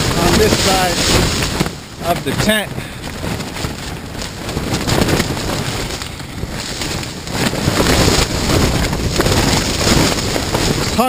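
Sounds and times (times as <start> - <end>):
wind rumbling on microphone: 0.0 - 11.0
wind shaking a tent: 0.0 - 11.0.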